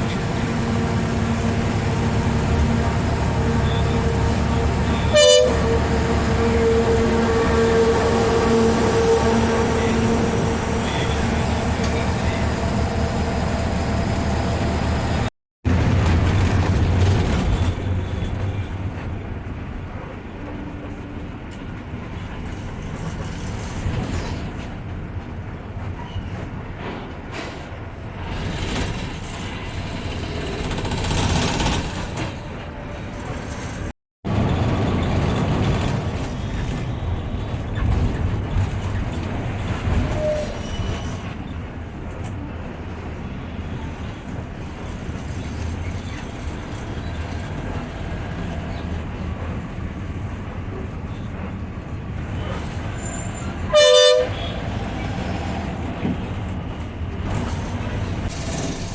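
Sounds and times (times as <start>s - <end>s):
bus engine running: 0.0s - 40.2s, 41.2s - 58.9s
road and tyre noise: 0.0s - 58.9s.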